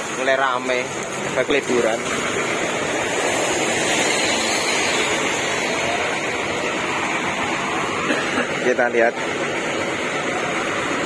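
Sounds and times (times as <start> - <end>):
bus engine running: 0.0 - 11.0
rain: 0.0 - 11.0
wet road noise: 0.0 - 11.0.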